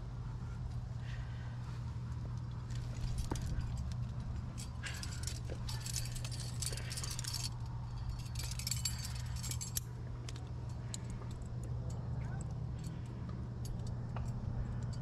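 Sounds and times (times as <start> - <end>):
low hum: 0.0 - 15.0
carabiners clinking: 2.1 - 15.0.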